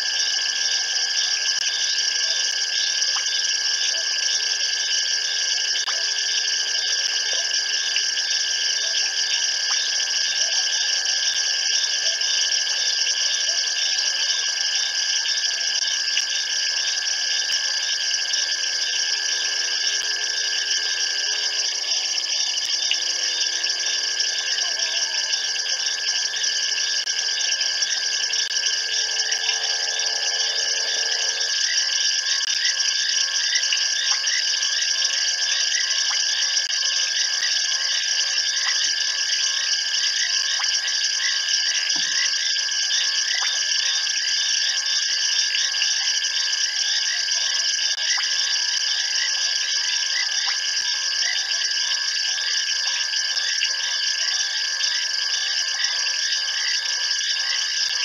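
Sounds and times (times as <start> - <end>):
frogs calling: 0.0 - 58.0
insects chirping: 0.0 - 58.0.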